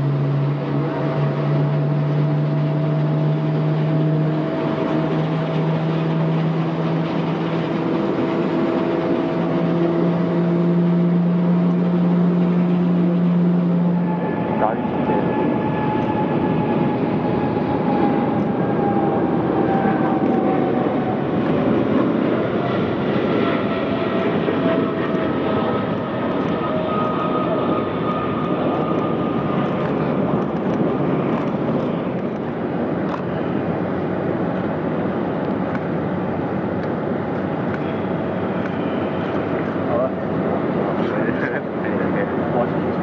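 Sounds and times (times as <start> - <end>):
jet engines rumbling and whining: 0.0 - 43.0.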